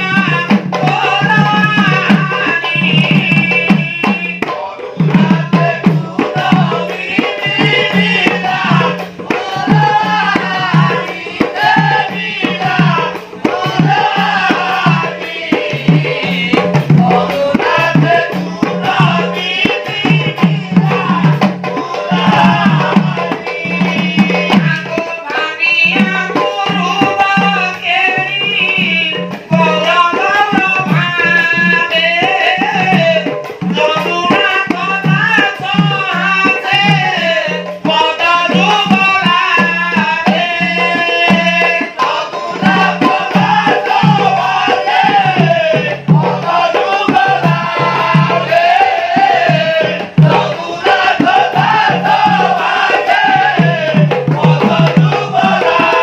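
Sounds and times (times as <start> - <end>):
man singing ornamented melody: 0.0 - 56.0.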